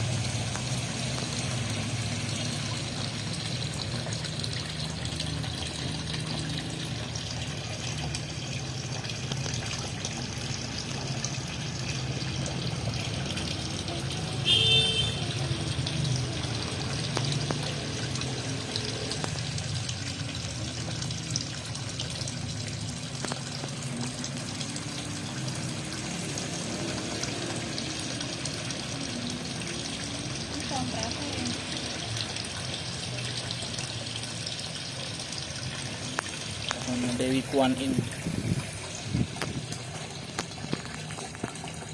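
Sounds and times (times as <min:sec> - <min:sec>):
water trickling into pond: 0:00.0 - 0:41.9.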